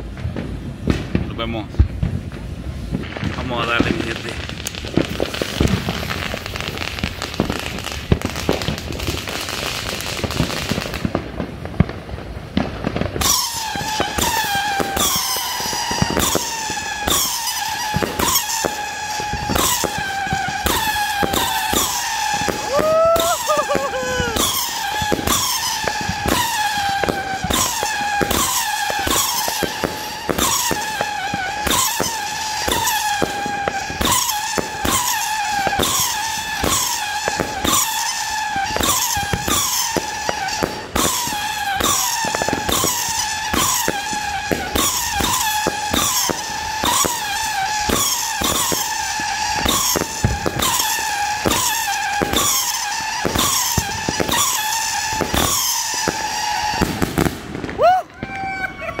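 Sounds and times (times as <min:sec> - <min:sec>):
firework bangs and crackles: 0:00.0 - 0:59.0
fireworks whistling: 0:00.0 - 0:59.0.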